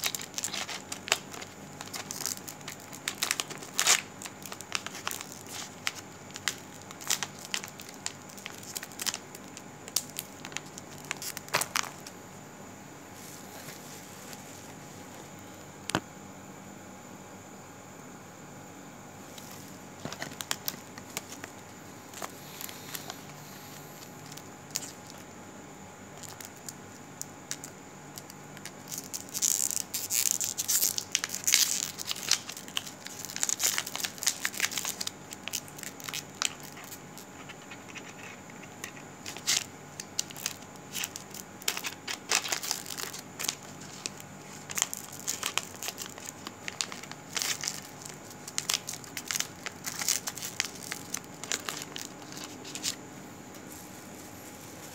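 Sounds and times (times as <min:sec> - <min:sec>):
rustling and crackling handling noise: 0:00.0 - 0:12.2, 0:13.1 - 0:16.0, 0:19.3 - 0:25.2, 0:28.6 - 0:54.9.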